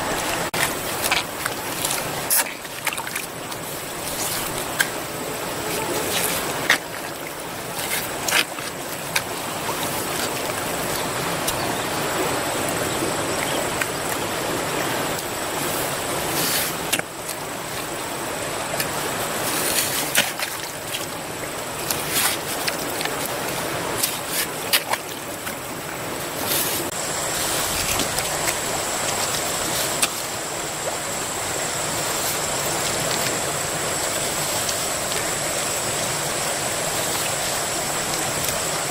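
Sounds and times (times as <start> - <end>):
steady watery hiss: 0.0 - 38.9.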